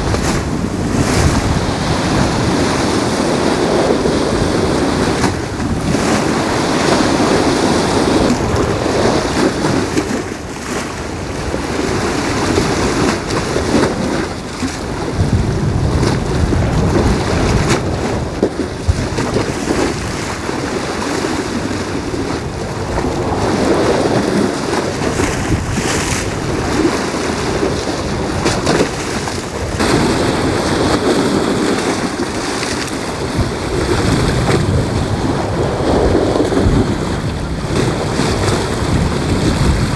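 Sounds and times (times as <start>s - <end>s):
wind gusting across microphone: 0.0s - 39.9s.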